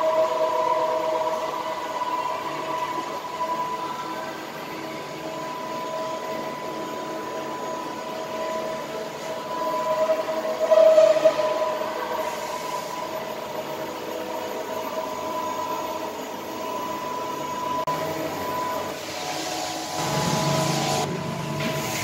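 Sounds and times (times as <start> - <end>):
machine tool humming with whining tones: 0.0 - 22.0.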